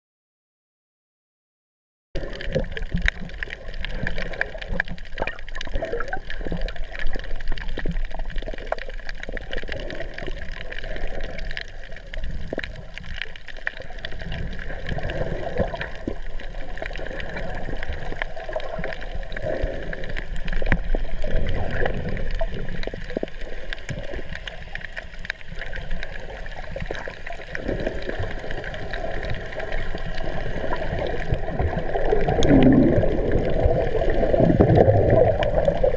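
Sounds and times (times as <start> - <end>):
muffled underwater water sloshing: 2.2 - 35.9
small clicks and crackles: 2.2 - 35.9.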